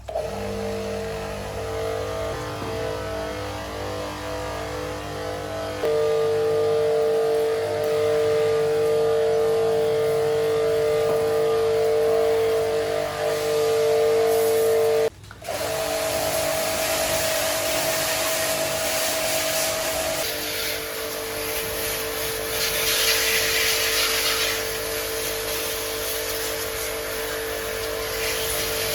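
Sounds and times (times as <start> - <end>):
small electric motor whining: 0.0 - 28.9.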